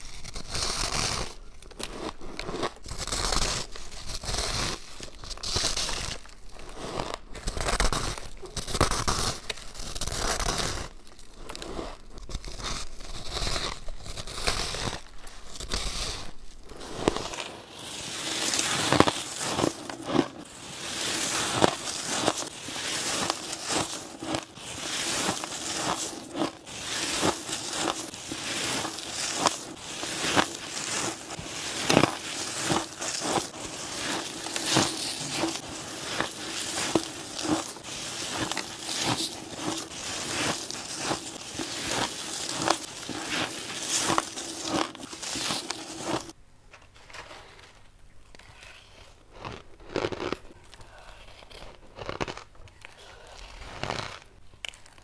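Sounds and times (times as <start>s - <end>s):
crunching bites into ice: 0.0s - 46.4s, 48.4s - 55.0s.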